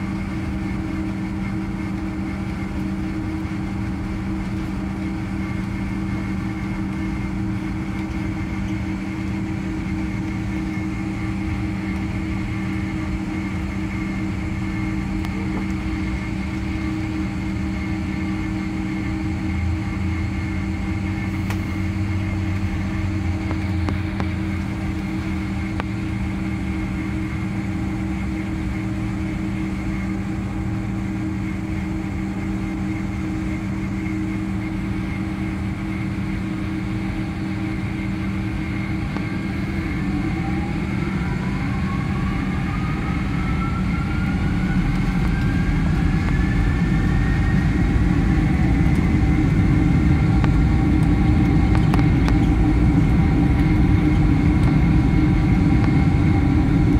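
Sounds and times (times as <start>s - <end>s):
jet engines humming: 0.0s - 56.9s
faint high whine: 4.2s - 56.9s.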